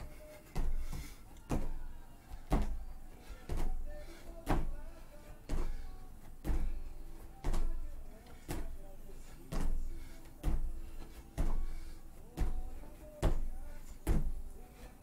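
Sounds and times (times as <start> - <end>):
feet thudding on foam mats: 0.0 - 15.0.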